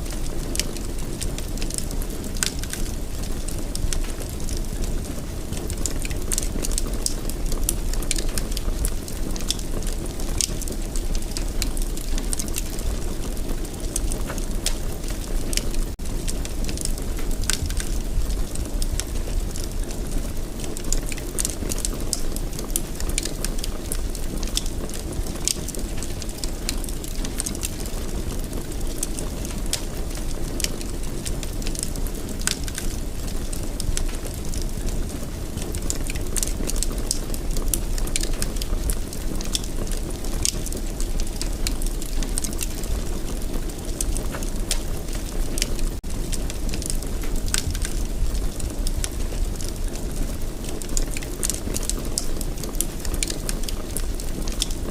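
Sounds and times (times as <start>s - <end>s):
fire crackles and pops: 0.0s - 54.9s
low rush of flames: 0.0s - 54.9s.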